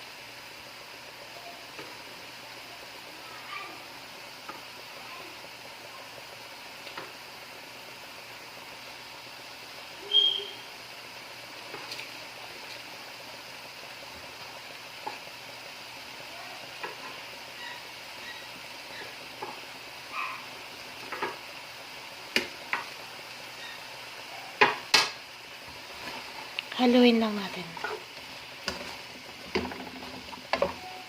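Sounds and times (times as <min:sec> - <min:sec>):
meat sauce sizzling in a pan: 0:00.0 - 0:31.0.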